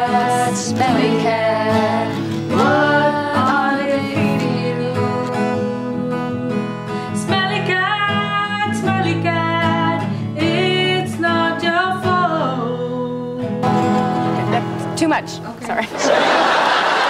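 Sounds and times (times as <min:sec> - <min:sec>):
woman singing: 0:00.0 - 0:15.0
strummed acoustic guitar: 0:00.0 - 0:15.8.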